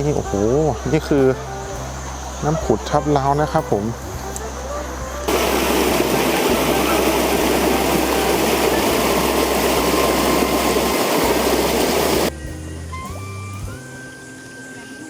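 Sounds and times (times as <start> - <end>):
stream water rushing and splashing: 0.0 - 12.3.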